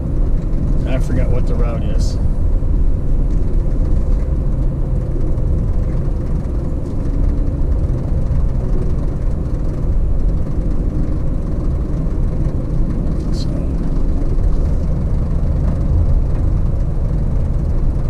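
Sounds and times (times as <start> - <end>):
car driving at speed: 0.0 - 18.0.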